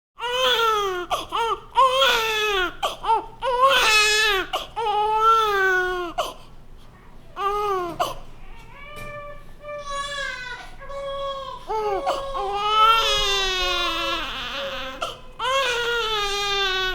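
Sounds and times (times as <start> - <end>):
infant crying: 0.2 - 6.4, 7.4 - 16.9.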